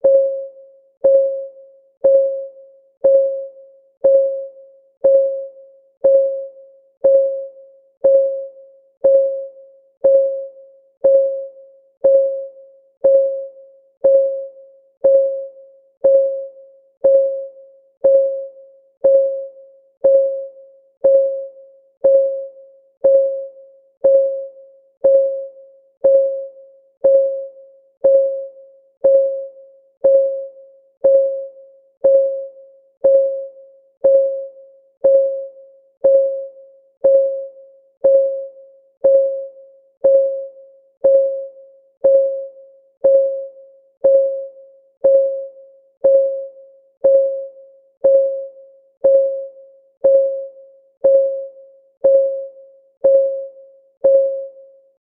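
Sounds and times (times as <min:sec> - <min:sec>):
countdown timer ticking: 0:00.0 - 0:54.6.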